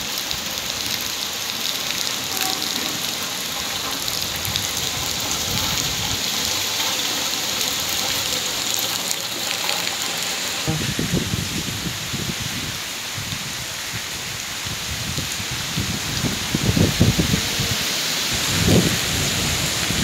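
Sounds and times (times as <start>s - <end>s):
heavy rain falling: 0.0s - 20.0s
rainwater pouring from drain: 0.0s - 20.0s.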